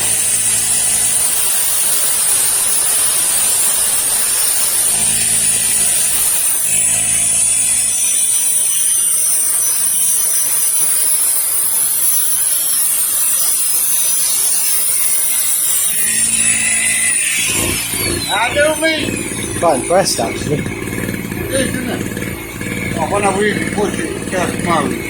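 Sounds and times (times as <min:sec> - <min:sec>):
electric drill whine: 0:00.0 - 0:25.0
petrol generator running under load: 0:00.0 - 0:25.0.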